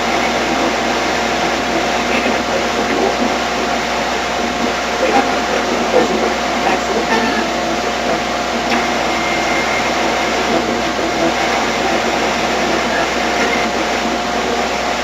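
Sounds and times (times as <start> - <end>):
radio static hiss and whine: 0.0 - 15.0.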